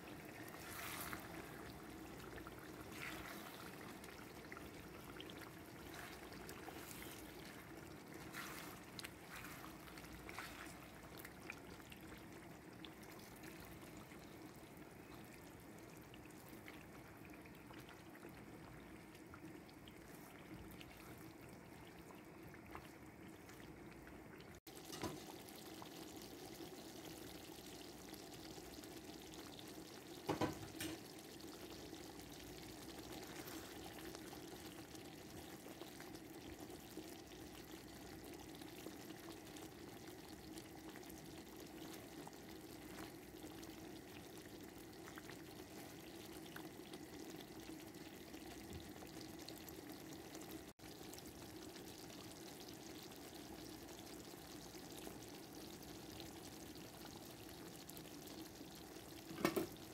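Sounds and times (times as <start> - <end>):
sauce bubbling in a pan: 0.0 - 59.9.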